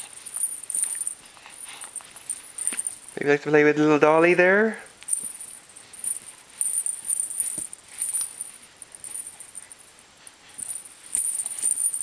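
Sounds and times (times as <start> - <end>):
soft high-pitched jingling: 0.0 - 12.0.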